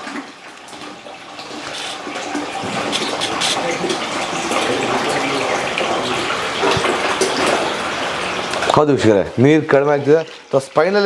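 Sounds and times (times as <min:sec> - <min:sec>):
water rushing from drain hose: 0:00.0 - 0:11.0.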